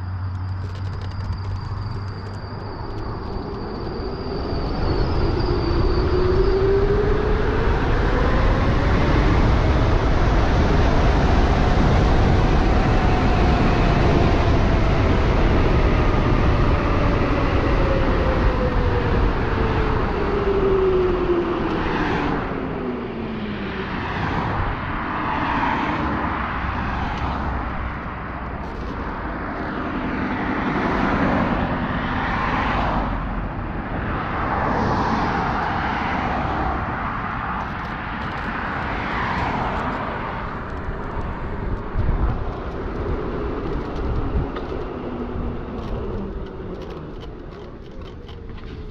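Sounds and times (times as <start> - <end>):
wind and tyre rush: 0.0 - 48.9.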